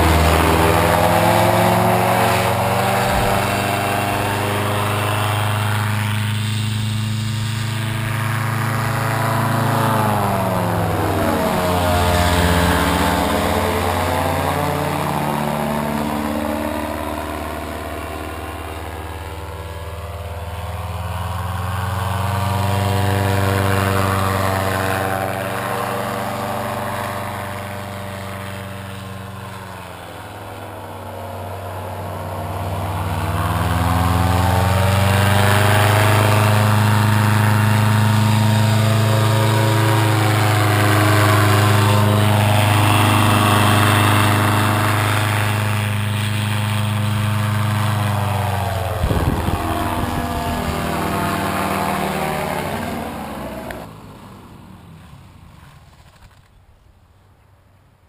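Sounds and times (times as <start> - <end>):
paramotor engine droning: 0.0 - 56.5.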